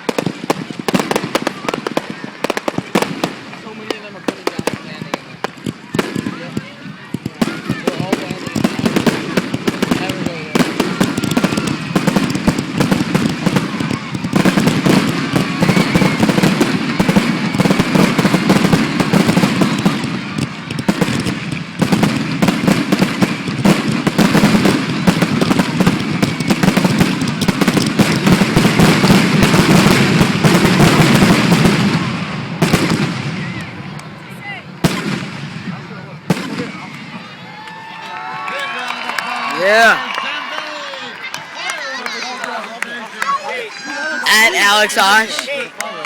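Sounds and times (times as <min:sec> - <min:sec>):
fireworks bangs and crackles: 0:00.0 - 0:45.6.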